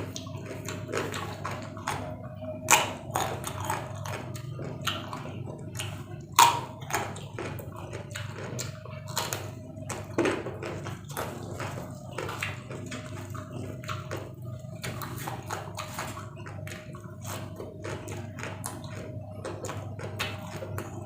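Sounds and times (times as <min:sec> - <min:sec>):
crunching raw vegetables: 0:00.0 - 0:21.0
faint steady hum: 0:00.0 - 0:21.0.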